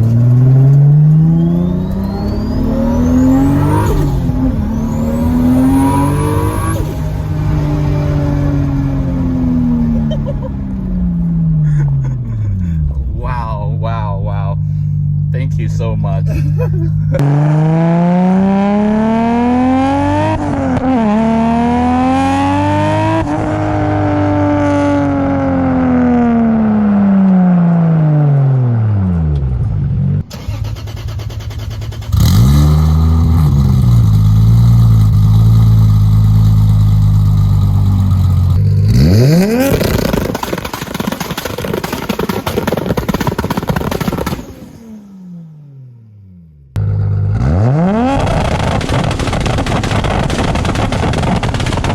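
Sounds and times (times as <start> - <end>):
engine on launch limiter: 0.0 - 12.0, 12.6 - 51.9
car engine revving: 0.0 - 51.9.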